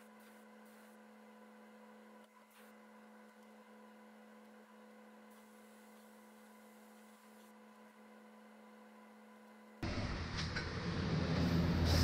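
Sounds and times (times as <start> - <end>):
faint electrical hum: 0.0 - 11.8.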